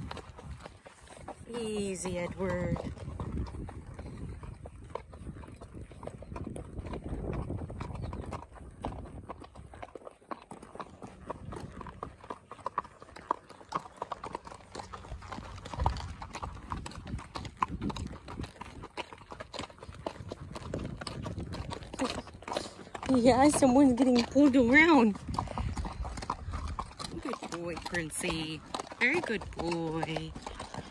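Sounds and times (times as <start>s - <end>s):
hooves clip-clopping on gravel: 0.0s - 30.9s.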